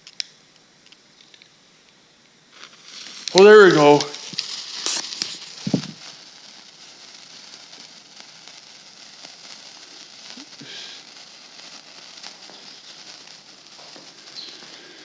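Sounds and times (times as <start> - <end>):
firework hissing and crackling: 1.4 - 15.0.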